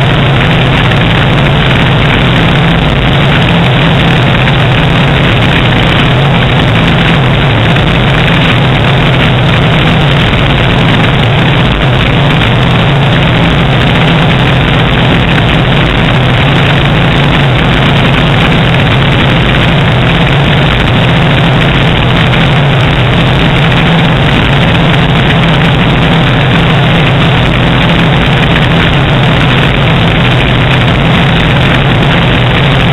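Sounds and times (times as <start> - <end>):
light aircraft engine droning: 0.0 - 32.9
wind rushing over microphone: 0.0 - 32.9.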